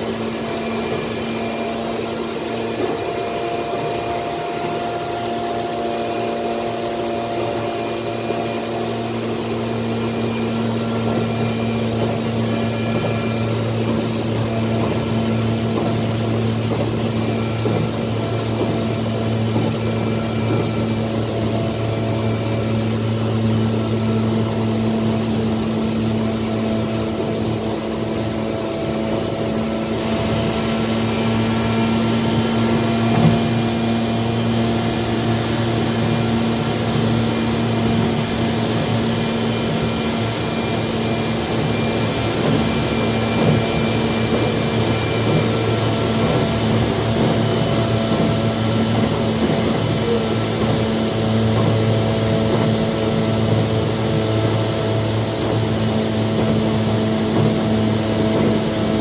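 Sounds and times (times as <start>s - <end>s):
electric train rumble and hum: 0.0s - 59.0s.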